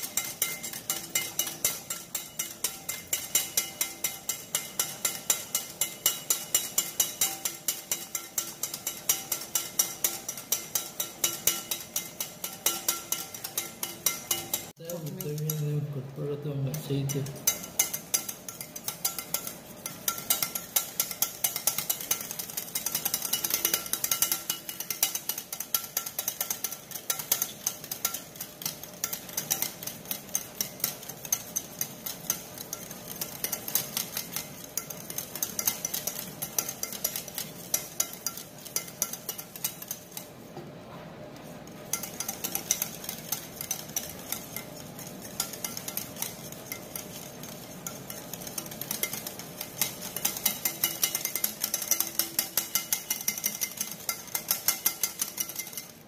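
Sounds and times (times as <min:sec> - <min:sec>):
whisk beating against a bowl: 0:00.0 - 0:56.0.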